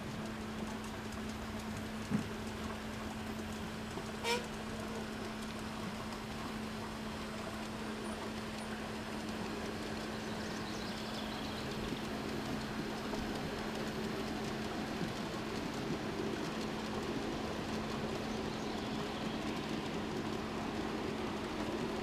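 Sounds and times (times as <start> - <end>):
model train wheels rolling on rails: 0.0 - 22.0.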